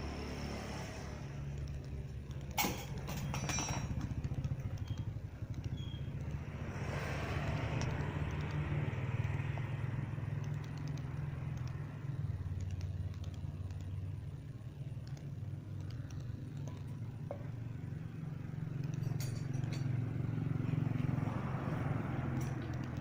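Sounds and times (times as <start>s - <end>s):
motorcycle engine idling: 1.2s - 23.0s.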